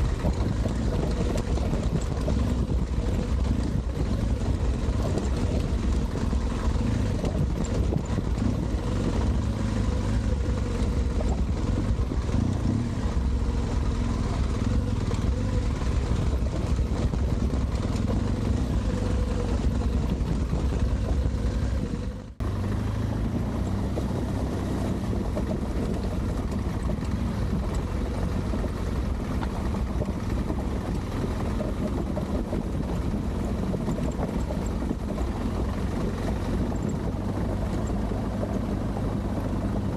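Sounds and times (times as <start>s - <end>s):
motorcycle engine rumbling: 0.0s - 39.9s
tyres on gravel: 0.0s - 39.9s.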